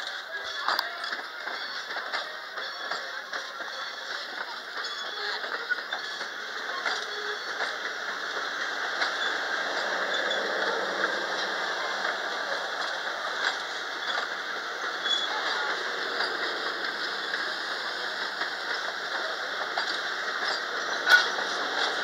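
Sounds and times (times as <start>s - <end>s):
wheel-on-rail noise: 0.0s - 22.0s.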